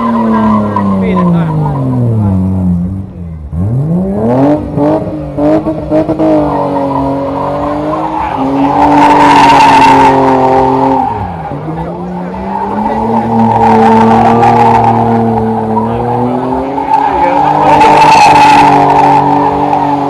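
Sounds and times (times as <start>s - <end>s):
tyres squealing and skidding: 0.0s - 2.5s, 5.9s - 20.0s
car engine revving hard: 0.0s - 20.0s.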